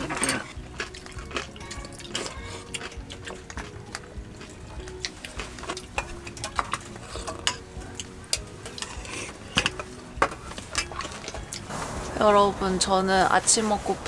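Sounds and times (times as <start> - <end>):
utensils clinking on metal bowls: 0.0 - 13.8.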